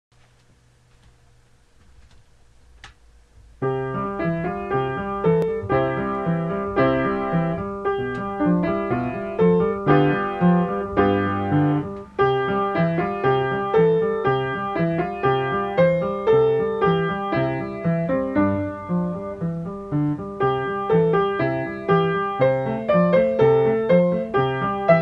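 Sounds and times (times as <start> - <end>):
piano music: 3.6 - 25.0.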